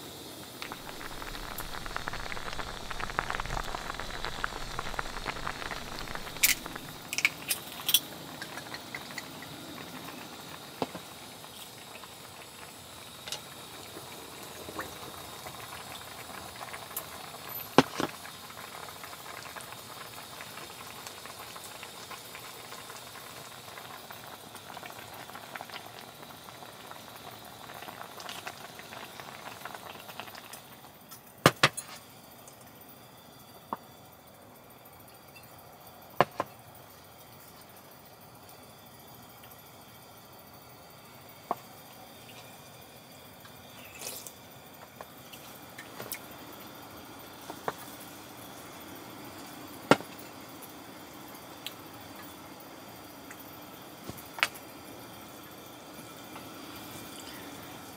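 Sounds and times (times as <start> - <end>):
soup boiling and bubbling: 0.2 - 31.1, 35.8 - 57.9.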